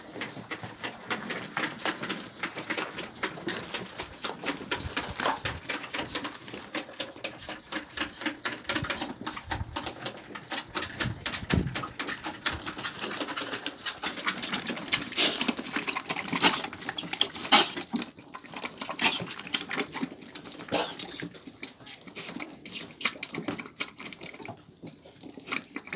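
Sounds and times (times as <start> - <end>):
hooves pattering on straw: 0.0 - 25.9
lambs sucking on teats: 0.0 - 25.9.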